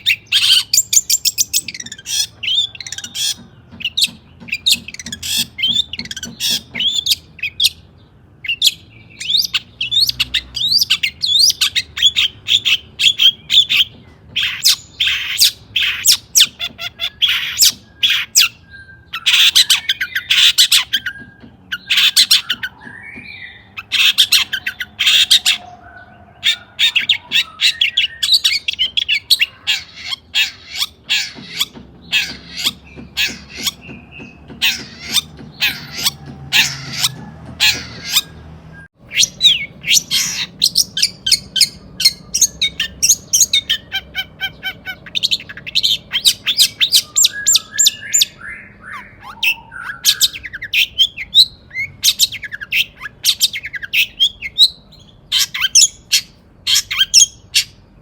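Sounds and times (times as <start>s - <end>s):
bird singing harsh rasping song: 0.0s - 58.0s.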